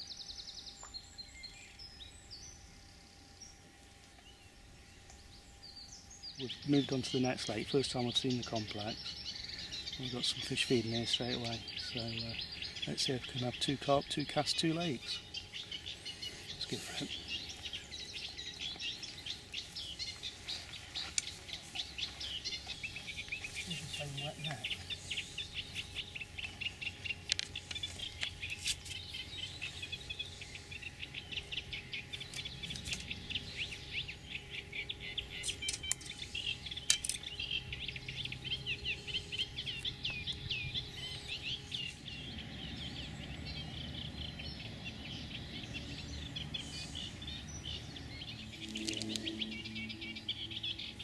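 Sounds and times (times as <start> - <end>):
birds chattering song: 0.0 - 51.0.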